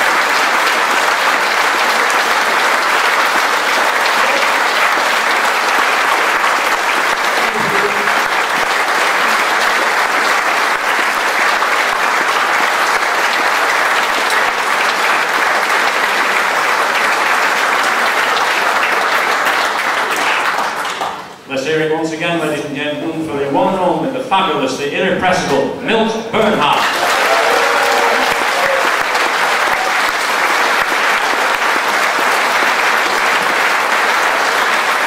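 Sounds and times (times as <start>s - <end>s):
audience applauding: 0.0s - 21.4s, 26.7s - 35.0s.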